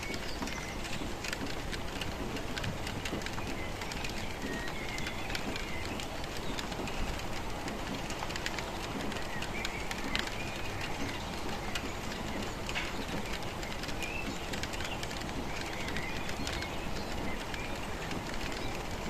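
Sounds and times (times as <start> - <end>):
steady rainfall with dripping: 0.0 - 19.0.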